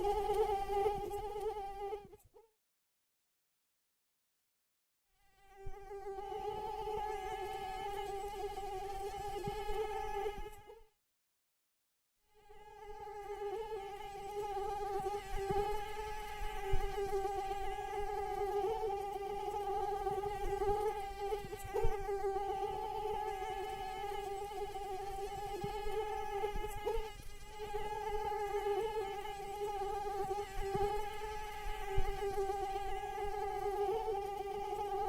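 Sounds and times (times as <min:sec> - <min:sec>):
mosquito wingbeat whine: 0:00.0 - 0:02.2, 0:05.3 - 0:10.8, 0:12.4 - 0:35.0.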